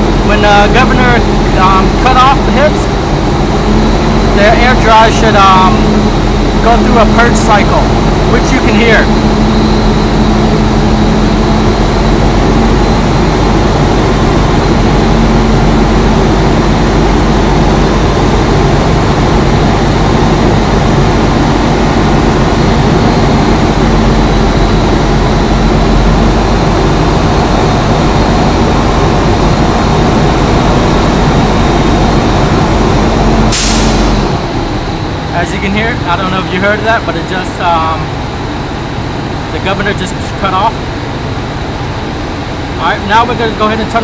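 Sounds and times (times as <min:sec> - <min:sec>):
air compressor humming: 0:00.0 - 0:43.9
diesel engine running: 0:00.0 - 0:44.0.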